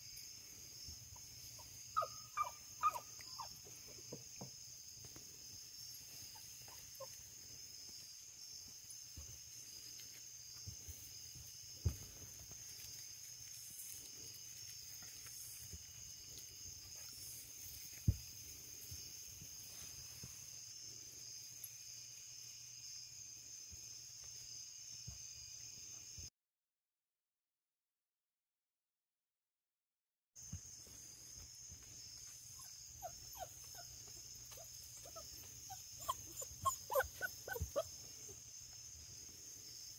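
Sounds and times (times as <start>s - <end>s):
insects chirring: 0.0s - 26.3s, 30.4s - 39.9s.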